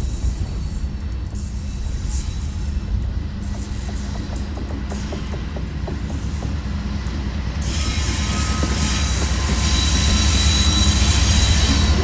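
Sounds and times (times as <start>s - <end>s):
steel wheels hissing on rails: 0.0s - 12.0s.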